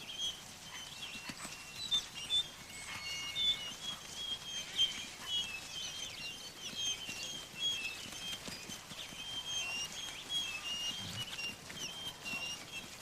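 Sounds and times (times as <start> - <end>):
wolves whining and squealing: 0.0 - 13.0.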